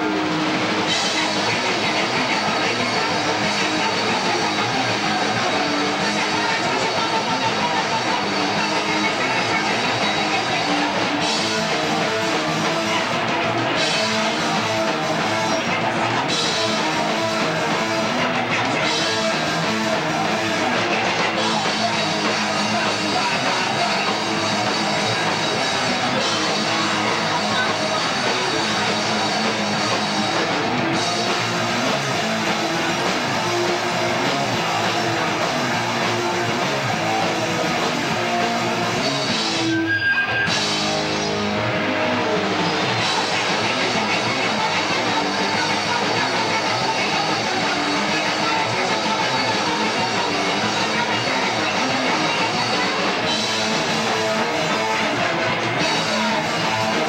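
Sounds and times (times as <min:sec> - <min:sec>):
drum kit: 0:00.0 - 0:57.0
electric guitars: 0:00.0 - 0:57.0
live rock band playing: 0:00.0 - 0:57.0.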